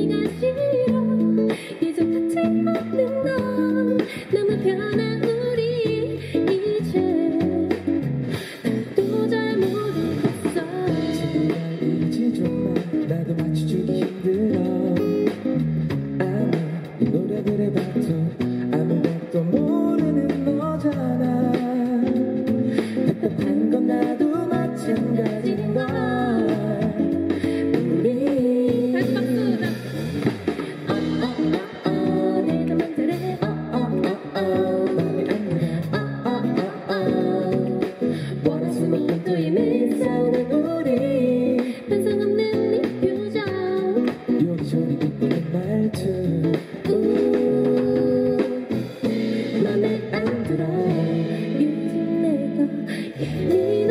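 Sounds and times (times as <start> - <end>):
acoustic guitar: 0.0 - 53.9
woman singing into a microphone: 0.0 - 53.9.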